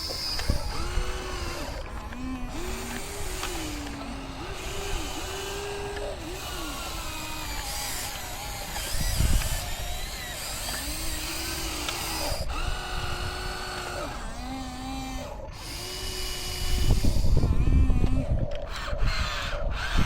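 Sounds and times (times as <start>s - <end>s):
electric motor and pump whine: 0.0s - 20.0s.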